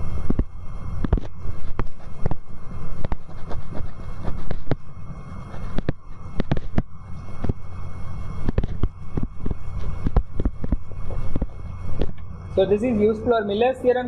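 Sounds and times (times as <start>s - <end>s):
low microphone rumble: 0.0s - 14.0s.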